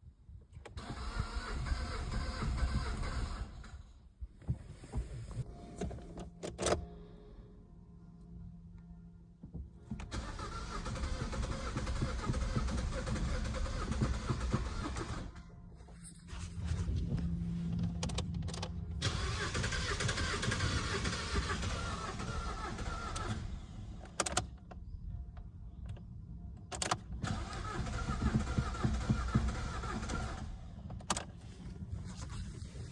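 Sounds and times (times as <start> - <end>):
diesel engine cranking: 0.6 - 7.2, 9.9 - 24.5, 26.7 - 32.9.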